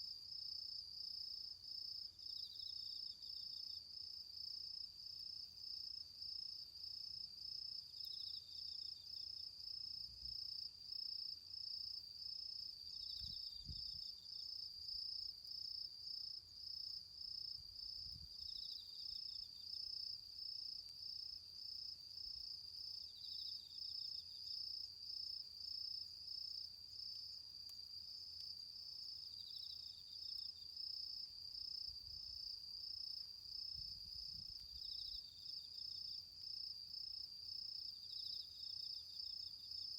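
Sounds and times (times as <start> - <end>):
cricket chirping: 0.0 - 39.9
insect trill: 0.0 - 39.9.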